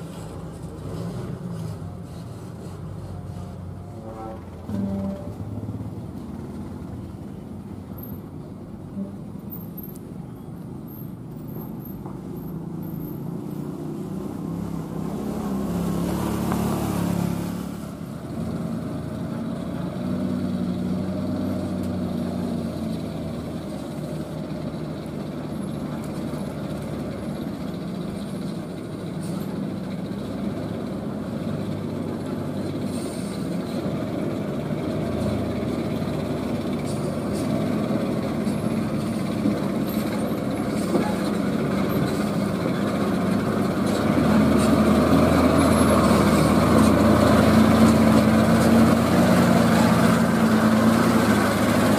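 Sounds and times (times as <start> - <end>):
diesel truck engine at low revs: 0.0 - 51.9.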